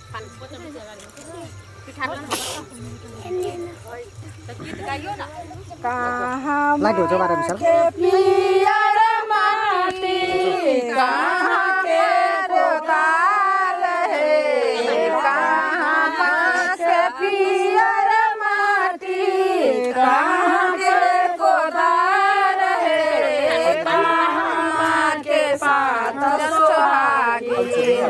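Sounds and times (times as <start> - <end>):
women singing folk song unaccompanied: 1.9 - 28.0.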